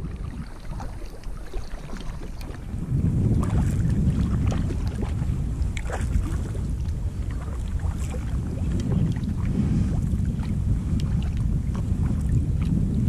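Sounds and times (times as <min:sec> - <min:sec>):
paddle splashing in water: 0:00.0 - 0:13.0
wind on microphone: 0:00.0 - 0:13.0.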